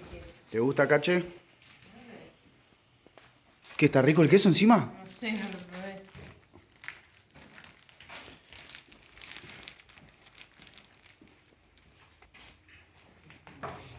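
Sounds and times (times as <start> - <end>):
faint rustling and crinkling: 0.0 - 13.9.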